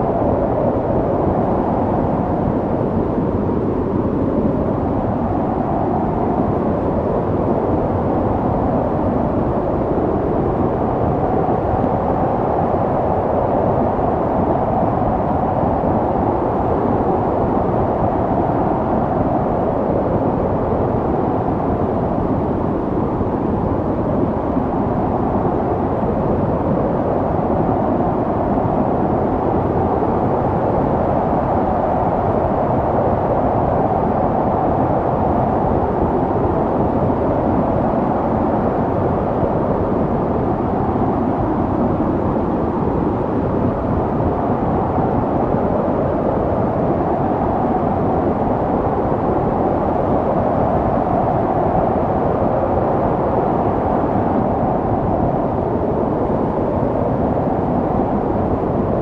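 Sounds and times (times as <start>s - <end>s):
snowstorm wind blowing: 0.0s - 59.0s.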